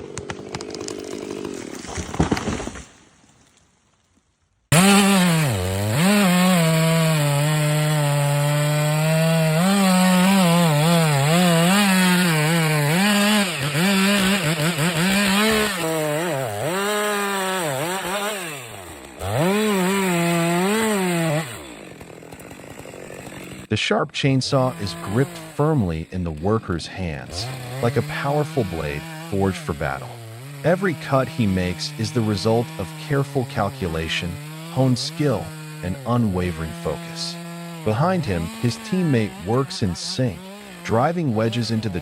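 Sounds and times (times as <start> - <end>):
chainsaw cutting tree trunk: 0.0 - 3.5, 4.7 - 23.7, 24.6 - 42.0.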